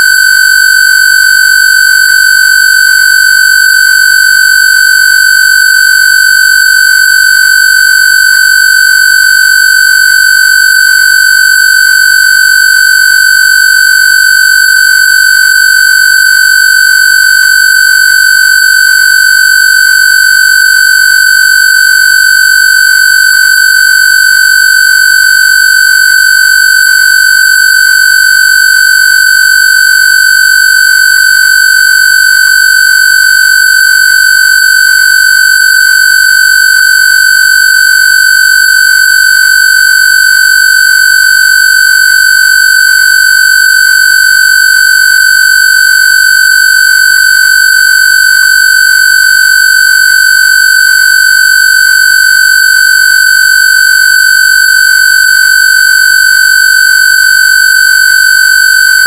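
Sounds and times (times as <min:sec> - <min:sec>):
high buzzy square-wave tone: 0:00.0 - 0:47.6.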